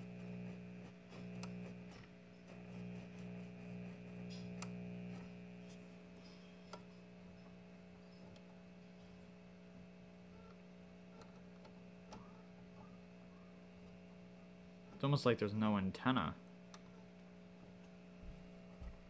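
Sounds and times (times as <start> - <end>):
faint radio mains hum: 0.0 - 19.0.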